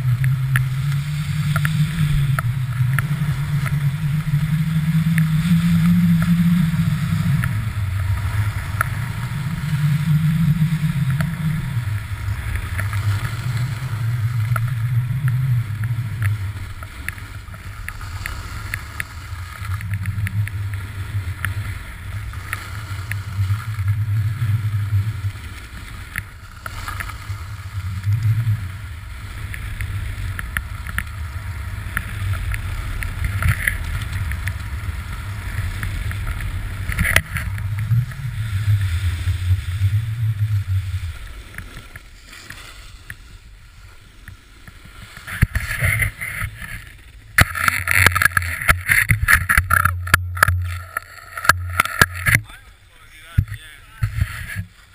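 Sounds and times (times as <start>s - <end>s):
snowboard sliding over snow: 0.0s - 54.9s
wind rumbling on microphone: 0.0s - 54.9s
small clicks and scrapes: 0.1s - 9.8s, 10.4s - 39.4s, 41.2s - 52.6s, 53.3s - 54.9s.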